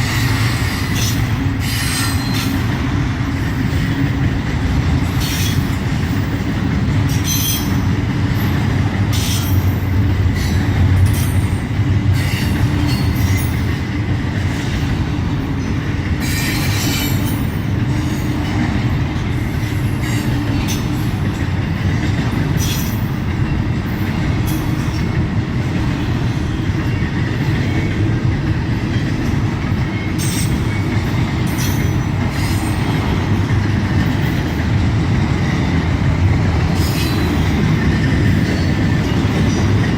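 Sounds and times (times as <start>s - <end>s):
steel wheels rumbling on rail: 0.0s - 39.9s.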